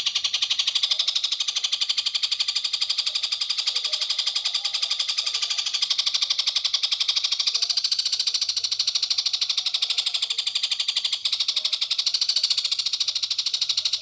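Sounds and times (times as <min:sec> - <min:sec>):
songbird fast trill: 0:00.0 - 0:14.0.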